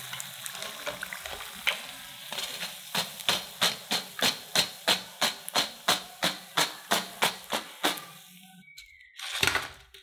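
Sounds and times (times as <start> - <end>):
faint oil sizzling: 0.0 - 8.6.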